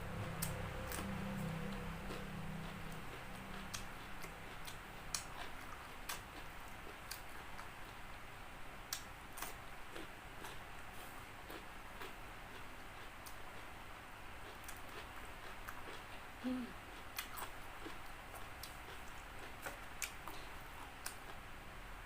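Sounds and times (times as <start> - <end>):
chewing crispy chicken: 0.1 - 8.3, 8.9 - 13.8, 14.4 - 21.4.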